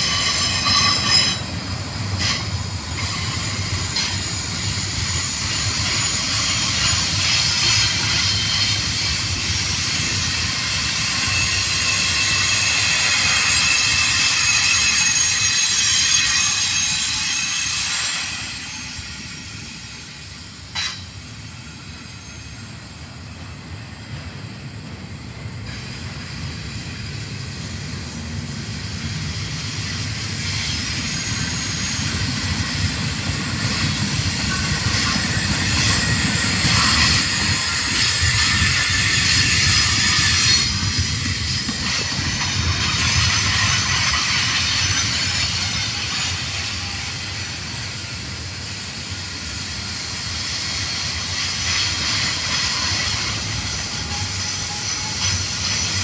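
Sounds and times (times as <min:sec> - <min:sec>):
train cars rolling rumble: 0:00.0 - 0:56.0
train wheel squeal: 0:00.0 - 0:56.0.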